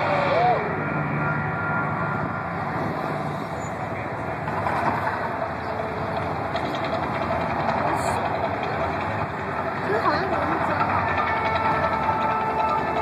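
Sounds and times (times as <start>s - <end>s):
roaring rumble of fire attraction: 0.0s - 13.0s
street noise: 0.0s - 13.0s.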